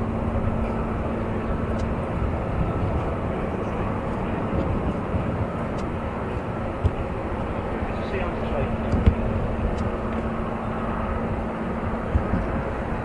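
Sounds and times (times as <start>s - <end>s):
aircraft engine rumble: 0.0s - 13.0s.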